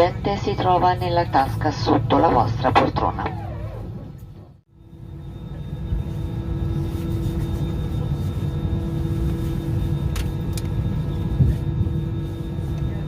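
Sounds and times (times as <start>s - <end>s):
airliner cabin rumble: 0.0s - 13.0s
steady hum tone: 0.0s - 13.0s.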